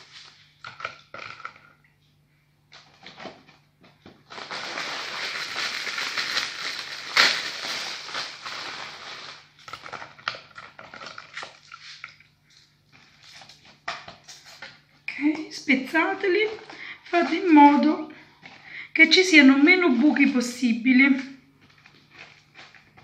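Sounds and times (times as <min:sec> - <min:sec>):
biscuits crackling and crunching: 0:00.0 - 0:20.3, 0:21.2 - 0:23.0.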